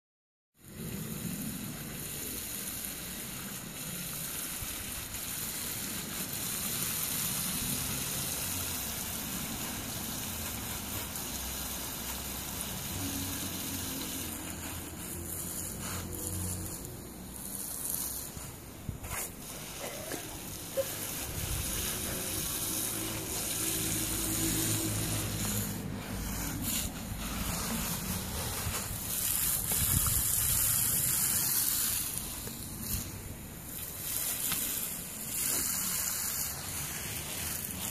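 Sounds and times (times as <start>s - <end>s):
water hissing from hose nozzle: 0.6s - 37.9s.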